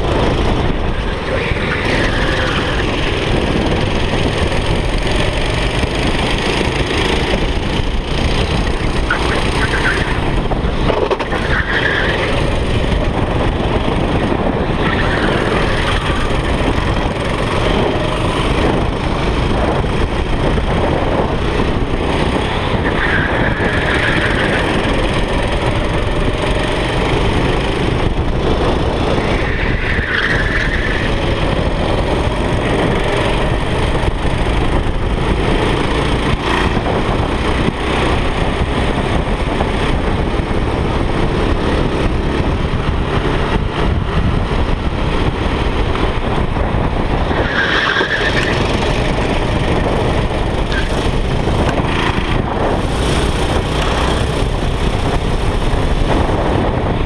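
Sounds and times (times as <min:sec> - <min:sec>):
go-kart engine running hard: 0:00.0 - 0:57.0
wind buffeting microphone: 0:00.0 - 0:57.0.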